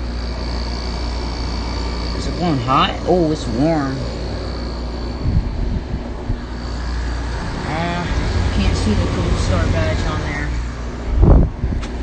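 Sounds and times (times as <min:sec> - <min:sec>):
air conditioner running: 0:00.0 - 0:12.0.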